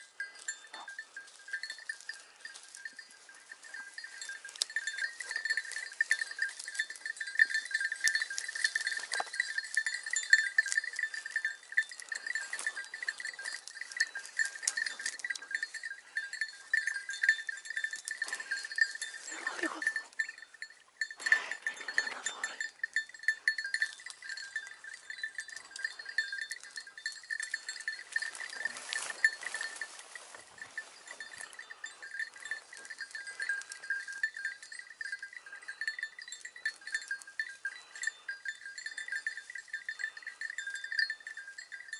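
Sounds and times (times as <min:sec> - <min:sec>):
dog bell jingling: 0:00.0 - 0:41.9.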